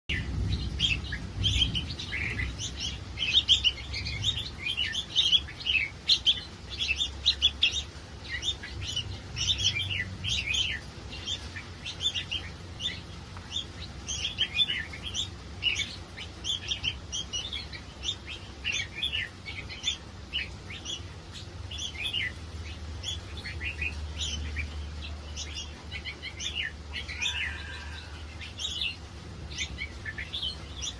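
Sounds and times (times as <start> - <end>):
birds chirping and calling: 0.1 - 30.9
low steady hum: 0.1 - 30.9.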